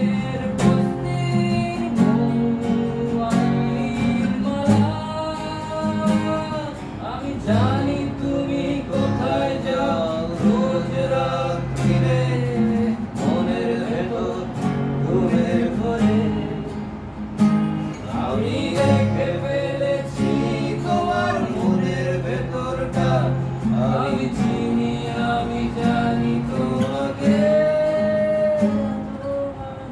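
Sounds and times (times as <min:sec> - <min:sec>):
acoustic guitar strumming chords: 0:00.0 - 0:29.9.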